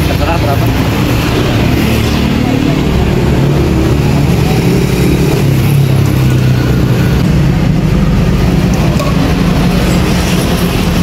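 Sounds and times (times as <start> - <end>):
street traffic engine hum: 0.0 - 11.0.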